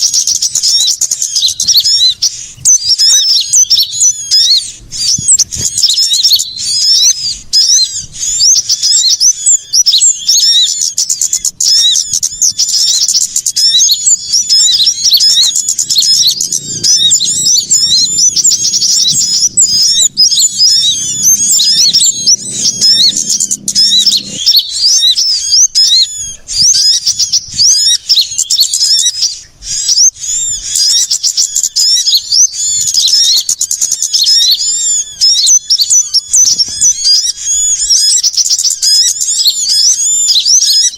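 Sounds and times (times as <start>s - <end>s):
small birds chirping chorus: 0.0s - 40.9s.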